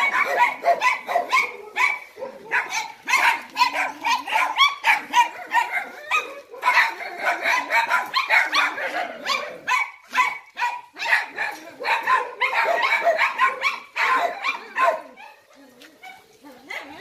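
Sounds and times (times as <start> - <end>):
dogs barking and yapping: 0.0 - 17.0.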